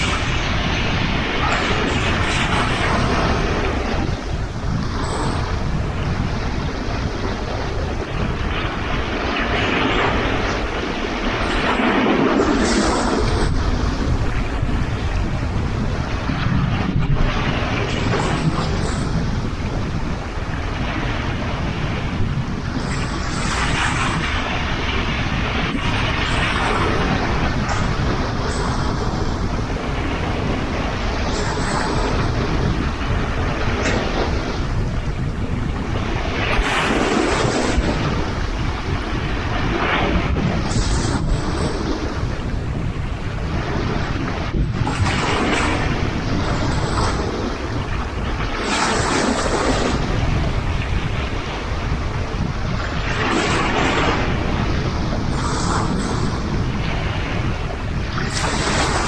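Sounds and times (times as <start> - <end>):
sea waves rushing: 0.0 - 59.0
wind rumbling on microphone: 0.0 - 59.0.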